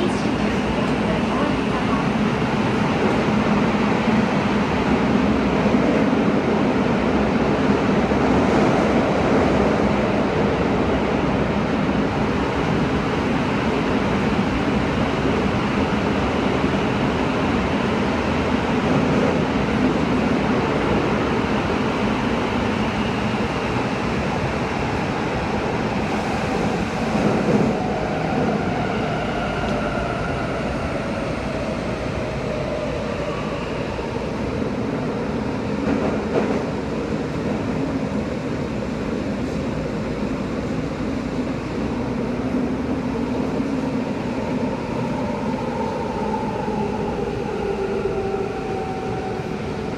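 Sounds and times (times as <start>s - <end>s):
subway train rumbling in tunnel: 0.0s - 49.9s.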